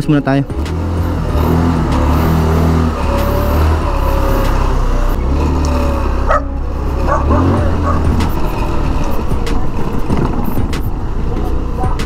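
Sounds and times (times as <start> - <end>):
scooter engine running: 0.4 - 12.0.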